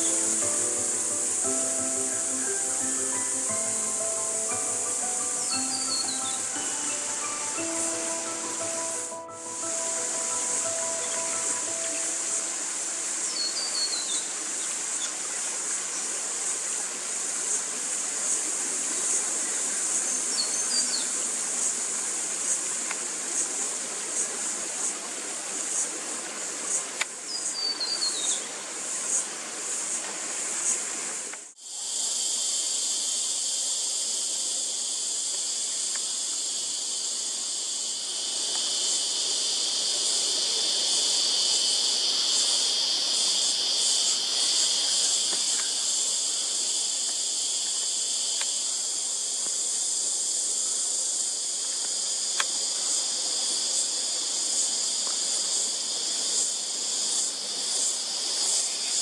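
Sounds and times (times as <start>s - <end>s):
high-pitched insect chorus: 0.0s - 59.0s
lower-pitched insect chorus: 0.0s - 59.0s.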